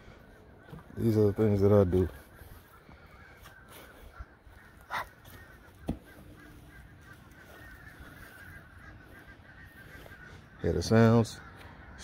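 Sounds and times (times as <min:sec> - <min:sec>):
bird cawing: 0:00.0 - 0:12.0
birds chirping: 0:00.0 - 0:12.0.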